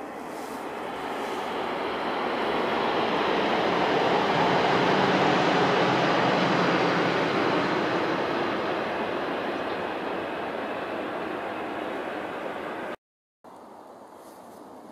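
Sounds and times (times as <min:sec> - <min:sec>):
high-speed train rushing past: 0:00.0 - 0:13.0.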